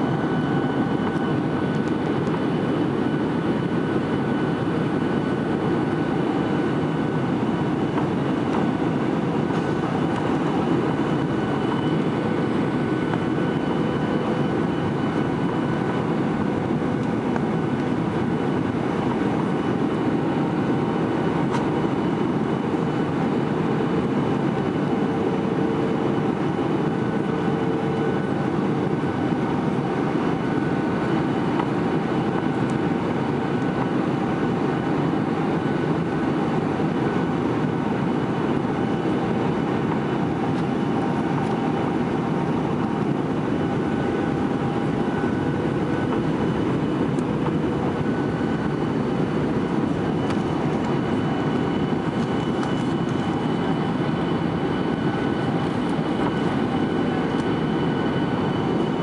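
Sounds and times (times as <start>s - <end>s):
airplane cabin engine roar: 0.0s - 59.0s
faint steady whine: 0.0s - 59.0s.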